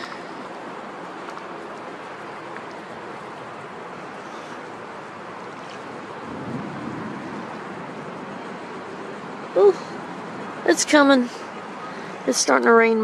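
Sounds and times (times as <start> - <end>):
water: 0.0 - 13.0
wind: 0.0 - 13.0.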